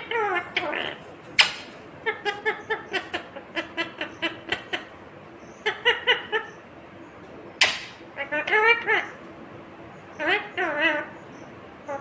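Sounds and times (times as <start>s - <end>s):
parrot chattering: 0.0s - 6.7s, 7.6s - 9.2s, 10.2s - 12.0s.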